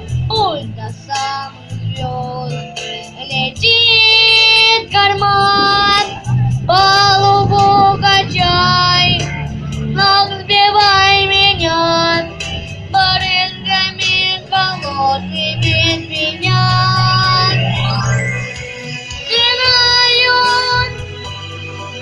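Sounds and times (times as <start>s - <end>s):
low instrumental accompaniment: 0.0s - 22.0s.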